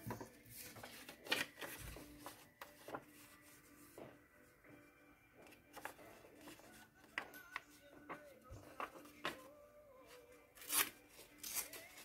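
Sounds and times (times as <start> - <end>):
paper rustling: 0.0 - 4.0, 5.4 - 12.0.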